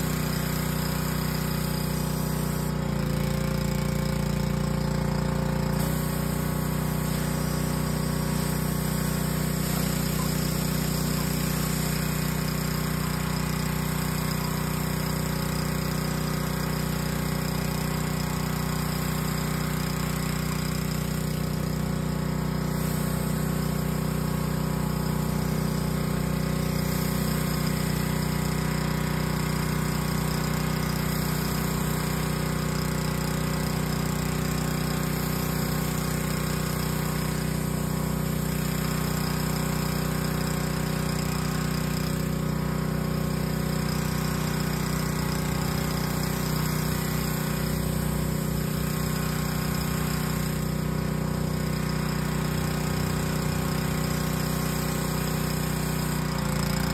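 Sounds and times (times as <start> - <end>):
pressure washer motor hum: 0.0 - 56.9
water spray hissing on concrete: 0.0 - 56.9.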